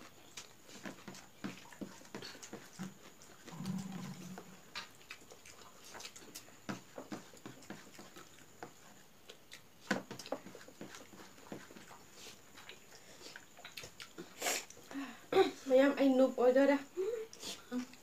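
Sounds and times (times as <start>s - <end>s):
eating by hand from metal plates: 0.0s - 15.2s.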